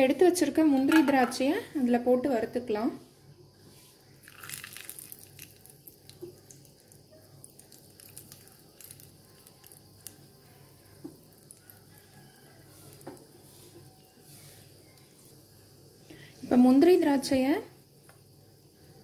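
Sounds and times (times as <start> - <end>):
faint crackling sizzle: 0.0 - 19.0.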